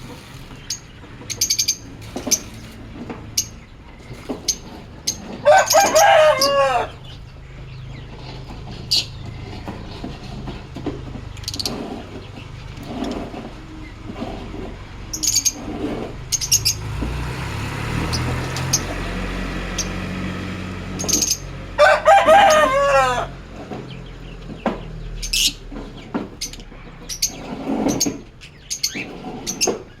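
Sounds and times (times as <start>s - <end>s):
lovebirds chirping: 0.0s - 17.2s, 22.5s - 30.0s.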